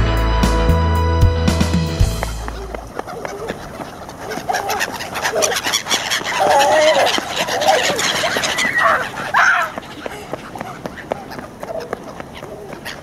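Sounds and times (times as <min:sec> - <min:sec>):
flock of birds calling: 0:02.0 - 0:13.0.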